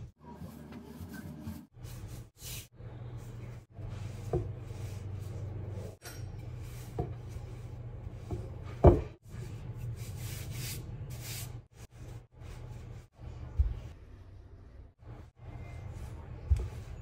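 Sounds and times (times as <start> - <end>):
rolling pin rubbing on dough: 0.2 - 14.0, 15.1 - 17.0.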